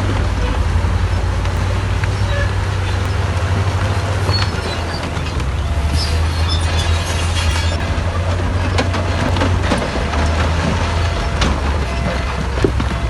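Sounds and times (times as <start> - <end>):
diesel engine droning: 0.0 - 13.0
scattered knocks: 0.0 - 13.0
steel tracks clanking and squeaking: 0.0 - 13.0.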